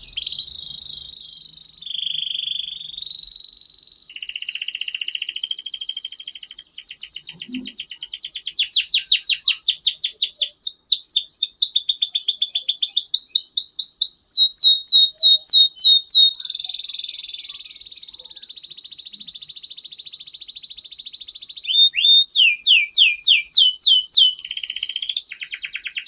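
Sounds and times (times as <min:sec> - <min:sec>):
canary singing trills: 0:00.0 - 0:26.0.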